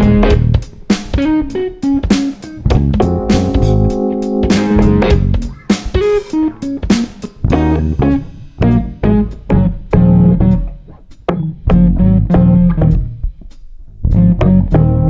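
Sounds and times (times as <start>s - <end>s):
lo-fi music with guitar and beat: 0.0s - 15.0s.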